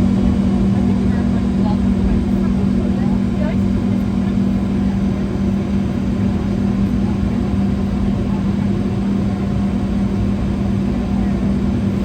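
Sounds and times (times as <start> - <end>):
jet engines humming: 0.0 - 12.0.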